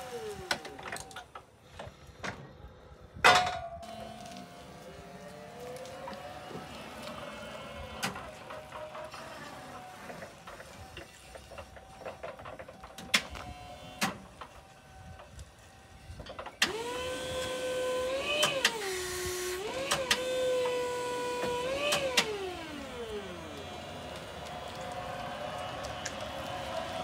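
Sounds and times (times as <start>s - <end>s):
hydraulic pump motor whining: 3.8s - 27.0s.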